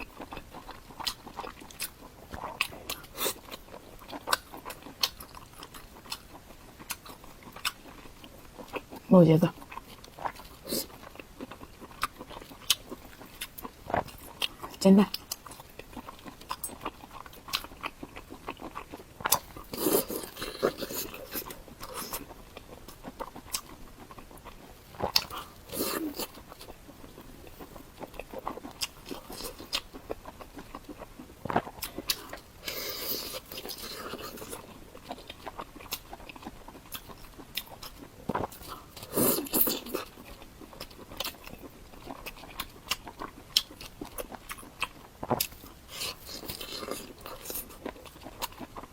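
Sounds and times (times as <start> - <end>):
person biting and chewing food: 9.6 - 48.9.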